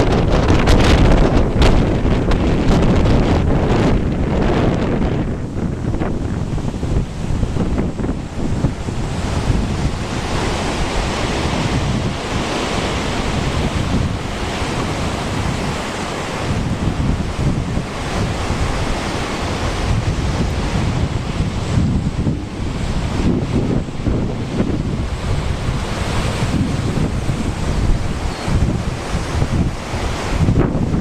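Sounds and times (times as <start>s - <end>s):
surf breaking and washing in: 0.0s - 31.0s
wind buffeting microphone: 0.0s - 31.0s.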